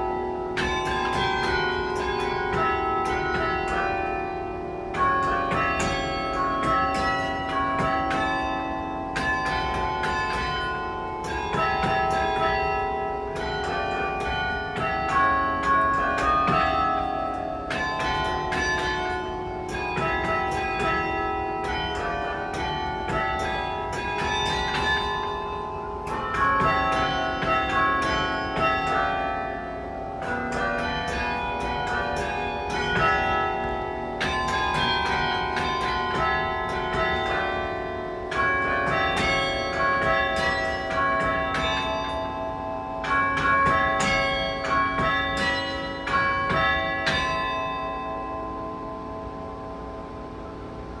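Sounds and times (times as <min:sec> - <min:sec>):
carillon bells playing melody: 0:00.0 - 0:51.0
low bells humming: 0:00.0 - 0:51.0.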